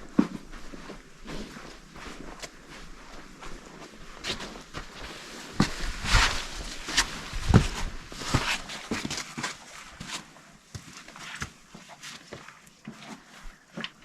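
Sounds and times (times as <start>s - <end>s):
footsteps and scuffs: 0.0s - 13.3s.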